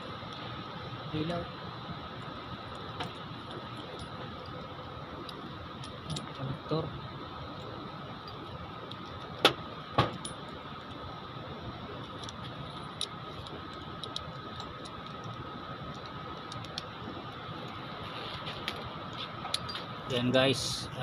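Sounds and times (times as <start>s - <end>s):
faint high whine: 0.0s - 21.0s
wiring handling clicks and rattles: 2.1s - 6.8s, 7.4s - 20.2s.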